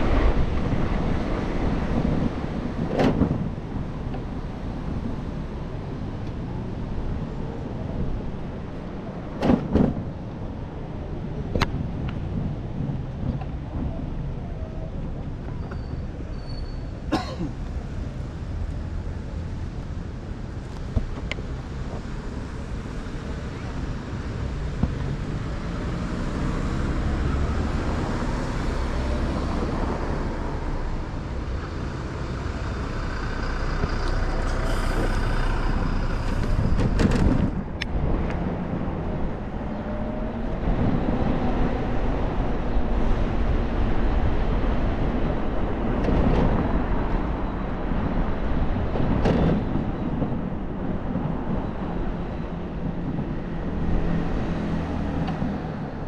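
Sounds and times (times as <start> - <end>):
wind rumbling on microphone: 0.0 - 17.0, 17.7 - 56.0
road traffic: 0.0 - 56.0.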